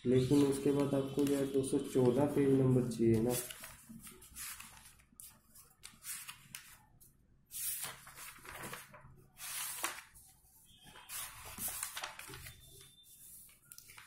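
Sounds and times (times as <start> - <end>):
book pages rustling: 0.2 - 2.3, 3.1 - 14.0.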